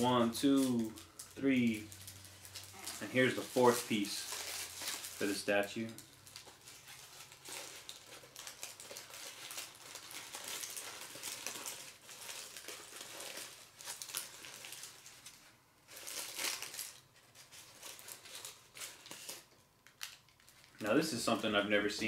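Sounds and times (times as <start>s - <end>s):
packaging wrap crinkling: 0.0s - 21.7s.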